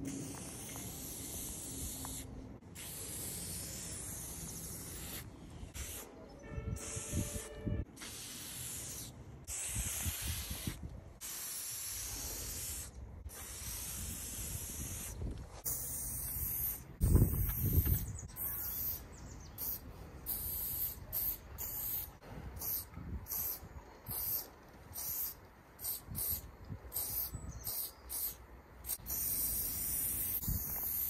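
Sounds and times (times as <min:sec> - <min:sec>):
spray paint can hissing: 0:00.0 - 0:31.0.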